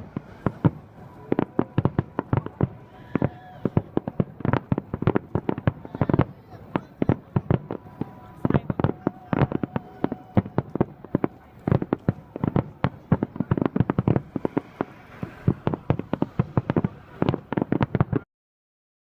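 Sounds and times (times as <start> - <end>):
distant fireworks bangs: 0.0 - 18.2.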